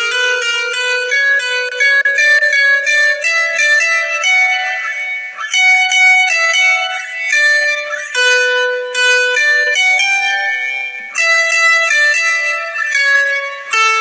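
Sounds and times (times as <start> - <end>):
ringtone melody: 0.0 - 14.0.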